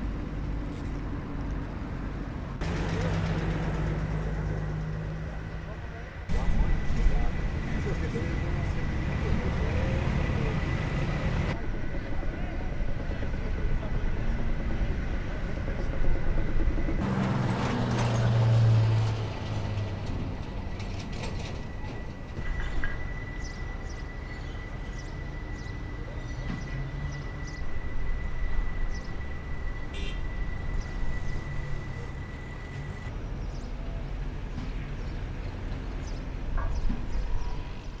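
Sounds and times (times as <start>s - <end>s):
ship engines rumbling: 0.0s - 33.2s
harbour noise: 0.0s - 38.0s.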